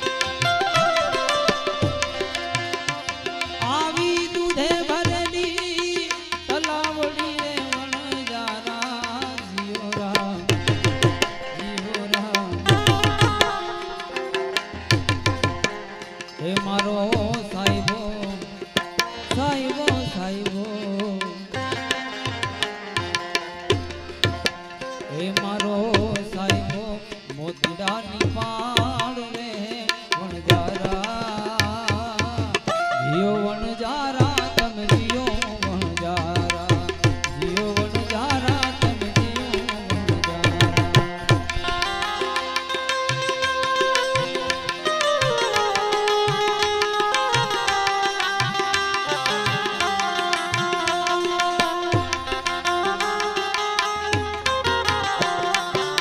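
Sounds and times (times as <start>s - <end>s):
tabla rhythm with bass strokes: 0.0s - 56.0s.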